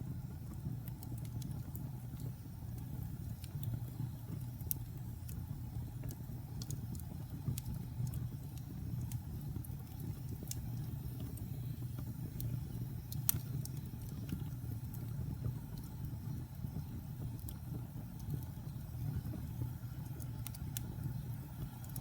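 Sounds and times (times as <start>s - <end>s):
fire crackles and pops: 0.0s - 22.0s
fire rumbling in fireplace: 0.0s - 22.0s.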